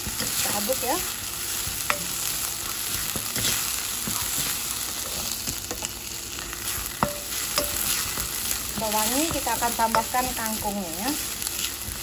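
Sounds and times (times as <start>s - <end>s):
garlic sizzling in oil: 0.0s - 12.0s
spatula scraping a pan: 1.6s - 12.0s.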